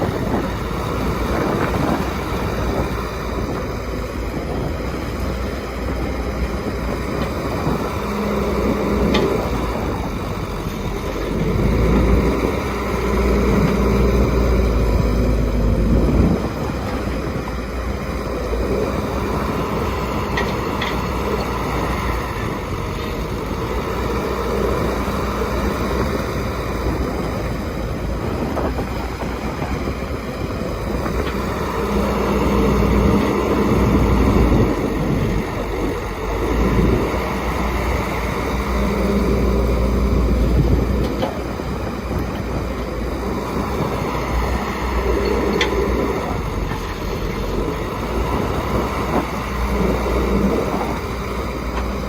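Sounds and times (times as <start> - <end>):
excavator diesel engine rumbling: 0.0 - 52.0.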